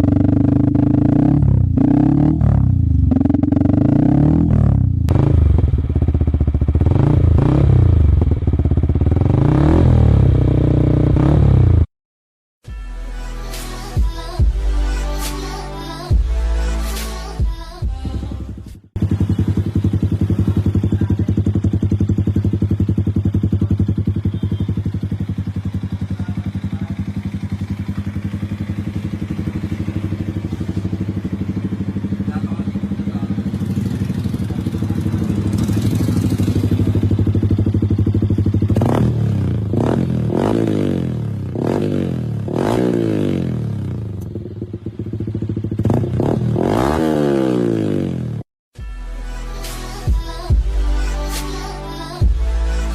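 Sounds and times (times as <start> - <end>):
motorcycle engine idling and revving: 0.0 - 11.9, 13.4 - 48.5, 49.6 - 52.9.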